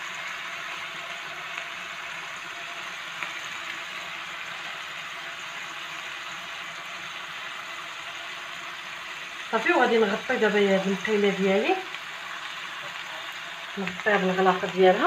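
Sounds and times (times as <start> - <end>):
burger patties sizzling in oil: 0.0 - 15.0.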